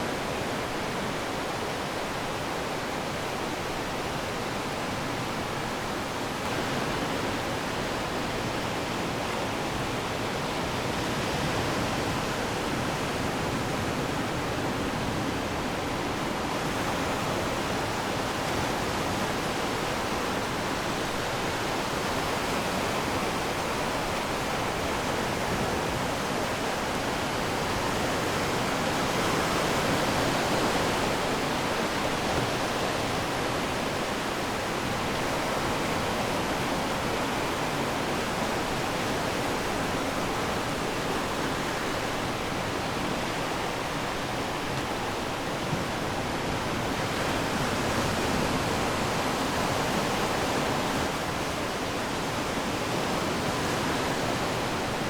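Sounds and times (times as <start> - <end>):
ocean surf washing on shore: 0.0 - 55.0.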